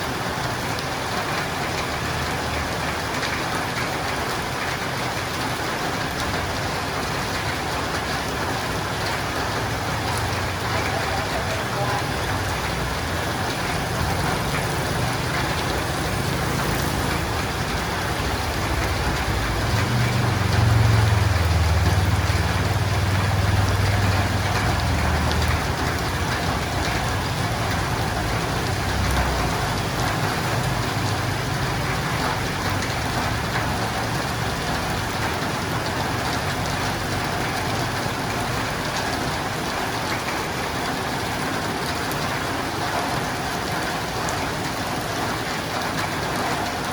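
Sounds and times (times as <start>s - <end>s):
heavy rain on a roof: 0.0s - 46.9s.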